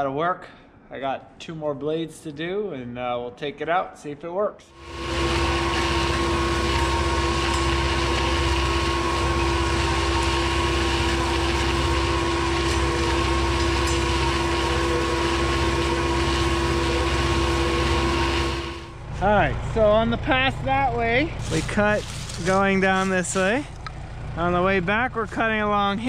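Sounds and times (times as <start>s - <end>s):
steady machine whine: 4.8s - 26.0s
tractor engine rumbling: 4.8s - 26.0s.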